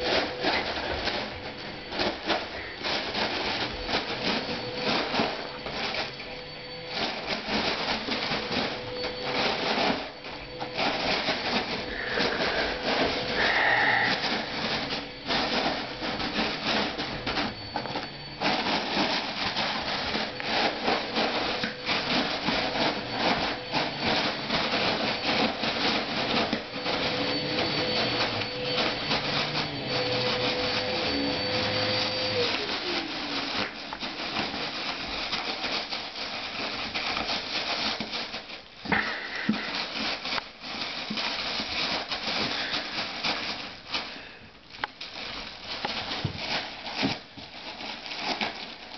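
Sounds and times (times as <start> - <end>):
foil balloon crinkling: 0.0 - 48.9.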